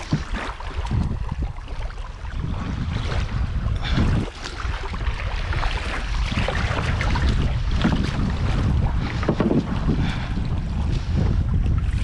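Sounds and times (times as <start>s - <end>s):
water sloshing and splashing: 0.0s - 12.0s
wind buffeting microphone: 0.0s - 12.0s.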